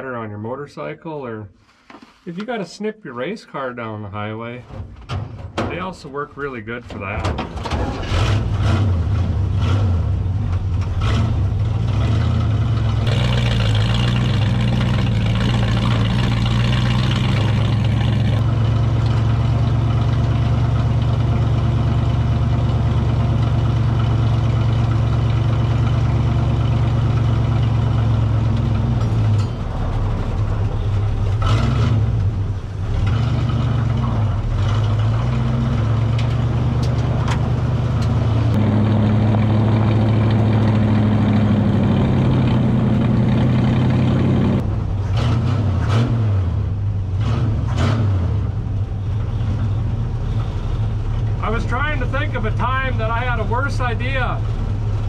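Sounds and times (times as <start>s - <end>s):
race car engine running: 7.8s - 55.0s.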